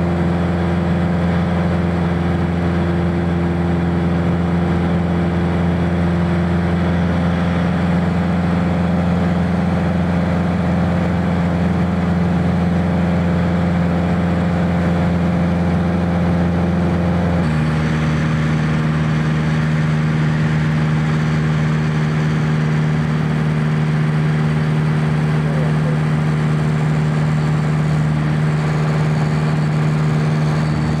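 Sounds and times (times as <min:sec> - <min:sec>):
aircraft engine and propeller: 0:00.0 - 0:31.0.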